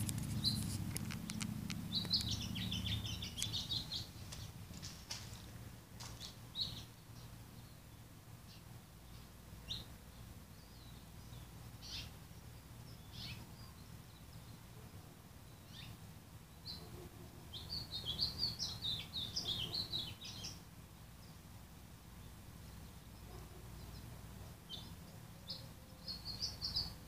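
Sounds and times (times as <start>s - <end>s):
low steady hum: 0.0s - 27.0s
small birds chirping: 0.0s - 27.0s.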